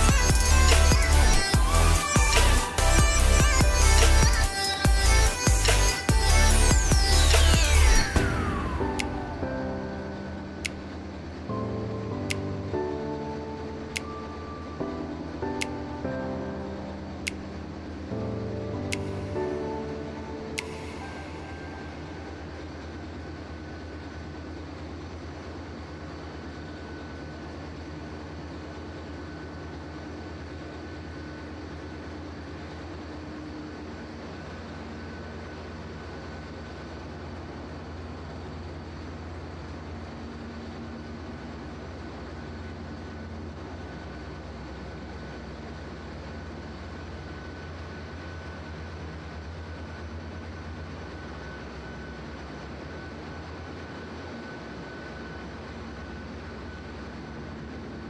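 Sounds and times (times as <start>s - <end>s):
faint high whine: 0.0s - 58.0s
machinery low drone: 0.0s - 58.0s.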